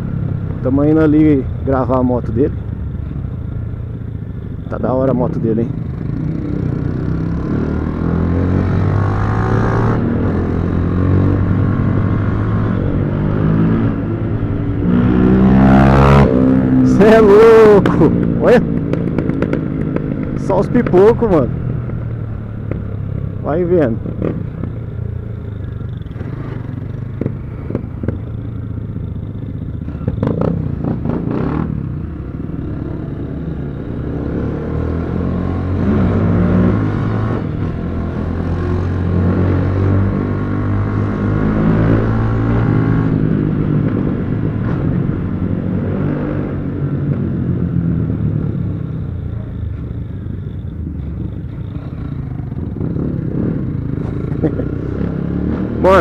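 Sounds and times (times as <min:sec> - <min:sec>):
motorcycle engine revving: 0:02.7 - 0:56.0.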